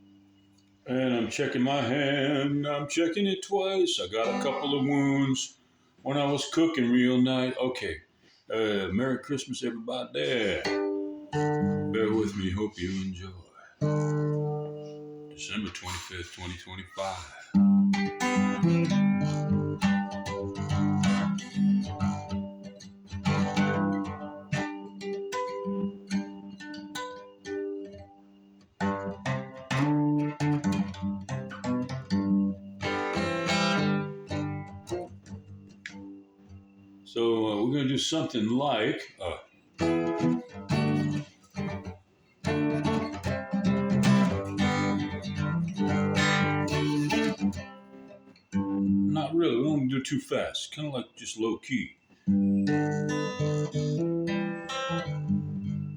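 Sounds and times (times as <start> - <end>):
acoustic guitar strumming chords: 0.0 - 3.2, 4.0 - 7.5, 8.5 - 51.1, 52.2 - 55.9.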